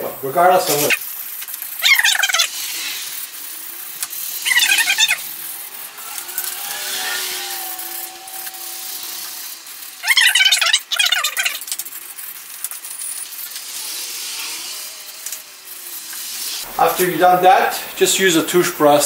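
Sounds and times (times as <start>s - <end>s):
wire brush scraping metal: 0.5s - 16.7s.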